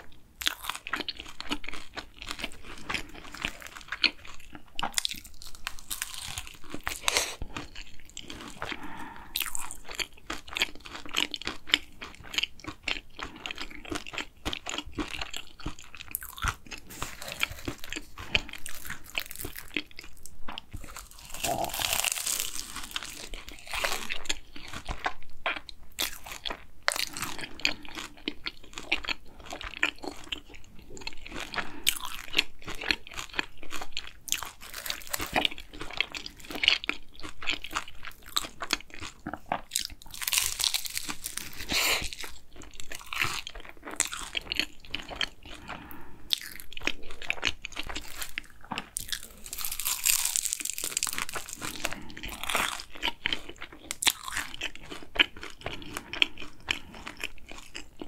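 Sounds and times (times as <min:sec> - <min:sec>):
chewing flaky pastry: 0:00.0 - 0:58.0
crunch of biting pastry: 0:00.4 - 0:58.0.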